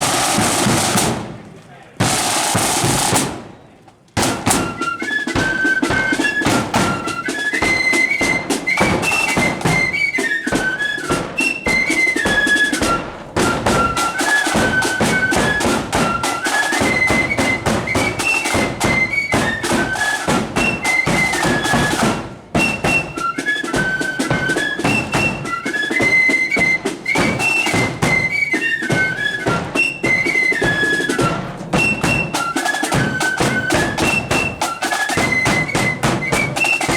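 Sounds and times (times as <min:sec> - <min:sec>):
snare and bass drum beats: 0:00.0 - 0:36.9
flute melody: 0:02.1 - 0:36.9.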